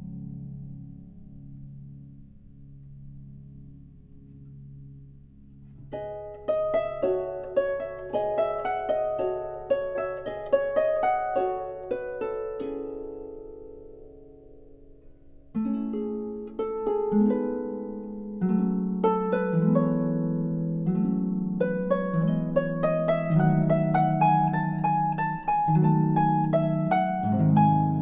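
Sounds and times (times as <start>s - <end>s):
plucked string melody: 0.0s - 28.0s.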